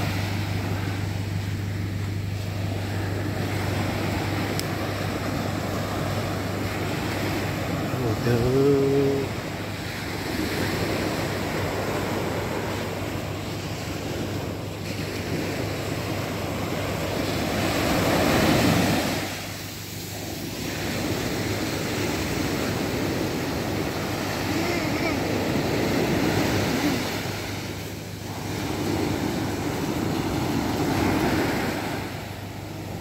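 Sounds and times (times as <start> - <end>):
small waves breaking on beach: 0.0 - 33.0.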